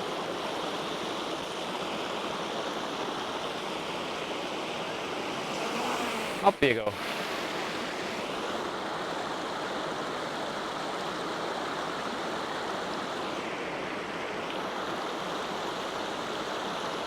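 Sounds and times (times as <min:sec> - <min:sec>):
waterfall and stream rushing: 0:00.1 - 0:17.0.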